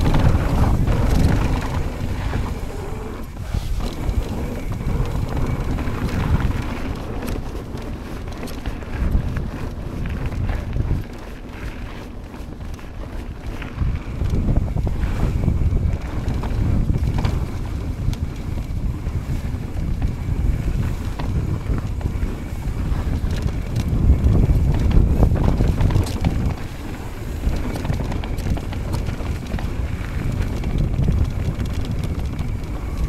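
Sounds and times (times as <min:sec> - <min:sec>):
bike clicks and knocks: 0:00.0 - 0:02.6, 0:03.3 - 0:33.0
tyres crunching on loose ground: 0:00.0 - 0:33.0
wind rushing over microphone: 0:00.0 - 0:33.0.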